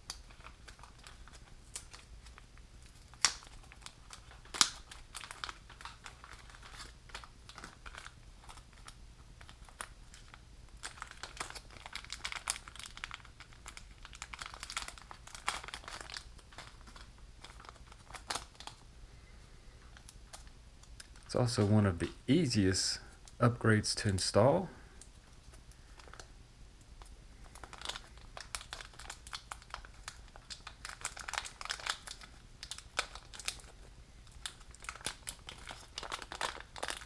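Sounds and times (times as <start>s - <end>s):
plastic packaging crinkling: 0.0s - 18.9s, 24.9s - 26.4s, 27.0s - 37.0s.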